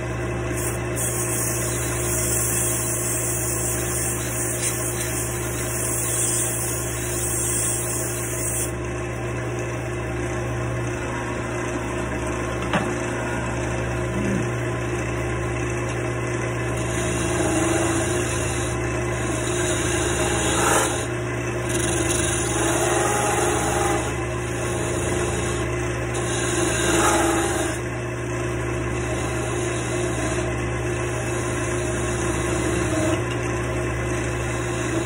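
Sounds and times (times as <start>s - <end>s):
wood lathe motor humming: 0.0s - 8.9s, 10.8s - 35.0s.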